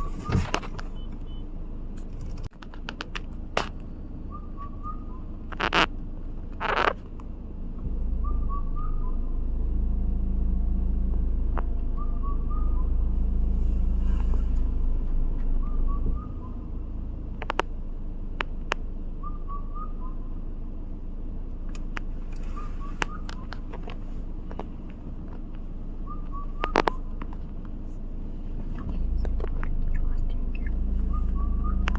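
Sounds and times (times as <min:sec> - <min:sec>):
low rumble: 0:03.3 - 0:31.9.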